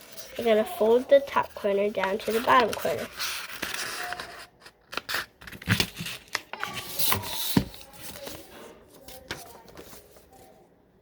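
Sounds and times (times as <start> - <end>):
paper rustling and crinkling: 0.0 - 10.6.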